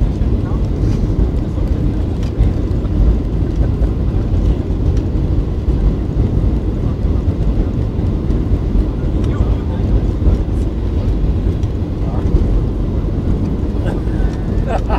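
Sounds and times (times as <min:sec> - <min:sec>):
airplane cabin engine rumble: 0:00.0 - 0:14.9.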